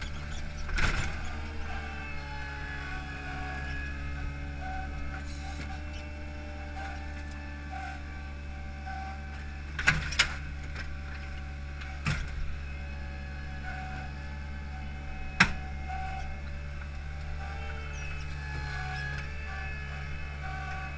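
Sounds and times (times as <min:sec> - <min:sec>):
paving machine running: 0:00.0 - 0:20.9.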